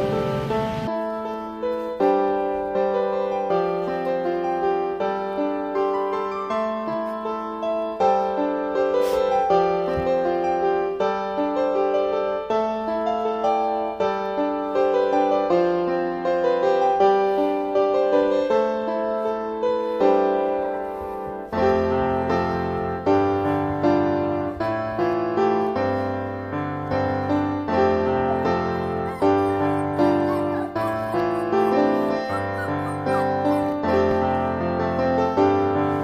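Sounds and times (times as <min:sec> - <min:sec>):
gentle piano melody: 0:00.0 - 0:36.0.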